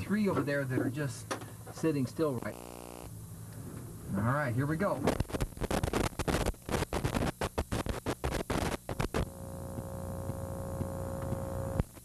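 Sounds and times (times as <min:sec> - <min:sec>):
steady hum with clear tone: 0:00.0 - 0:12.0.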